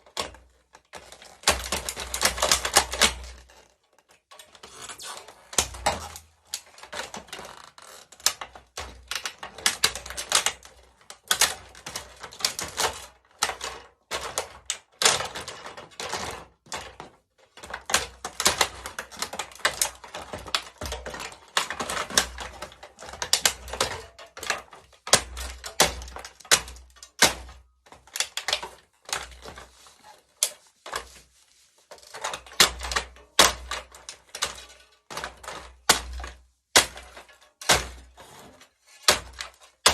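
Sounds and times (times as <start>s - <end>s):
plastic toy cracking: 0.1s - 31.2s, 31.9s - 39.9s.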